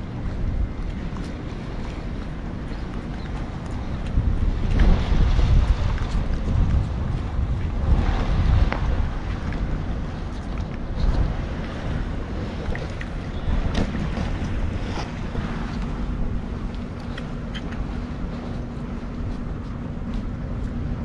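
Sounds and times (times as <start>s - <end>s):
faint steady hum: 0.0s - 21.0s
wind buffeting microphone: 0.0s - 21.0s.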